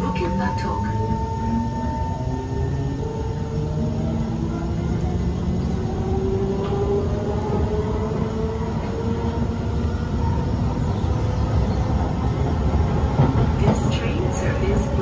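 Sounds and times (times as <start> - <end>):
train wheels rumbling on track: 2.2 - 15.0.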